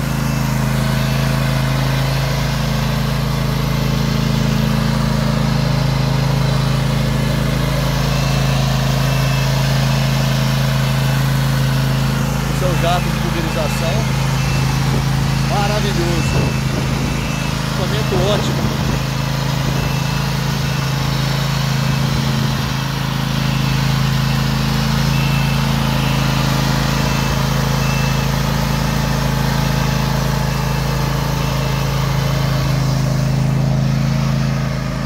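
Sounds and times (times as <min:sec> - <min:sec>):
riding mower engine running: 0:00.0 - 0:35.0.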